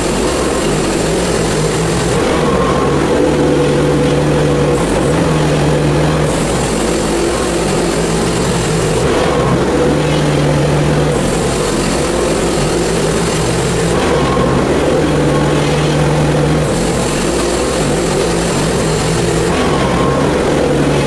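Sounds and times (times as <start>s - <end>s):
gasoline engine running: 0.0s - 21.0s.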